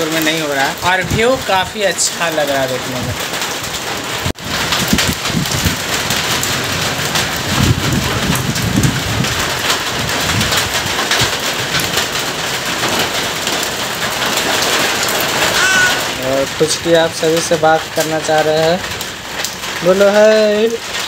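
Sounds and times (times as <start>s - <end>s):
rain splashing on a rooftop: 0.0s - 21.0s
thunder rumble: 0.0s - 21.0s.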